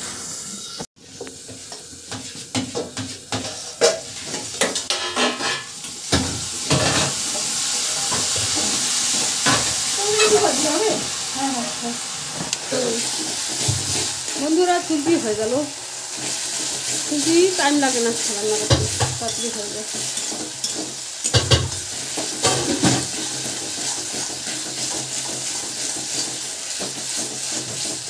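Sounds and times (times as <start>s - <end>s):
food sizzling in a pan: 0.0s - 28.0s
metal spatula scraping a pan: 1.5s - 5.9s, 6.6s - 11.0s, 12.7s - 28.0s.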